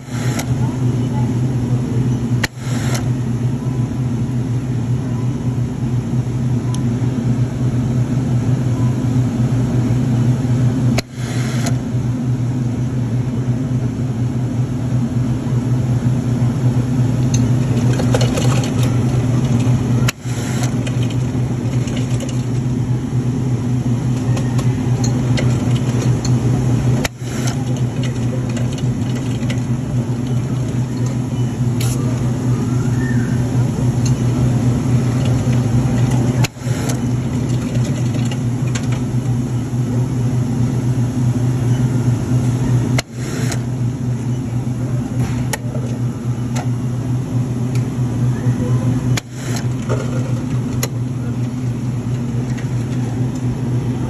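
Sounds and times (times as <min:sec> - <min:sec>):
soda dispenser humming: 0:00.0 - 0:05.6, 0:06.4 - 0:12.0, 0:16.0 - 0:54.0.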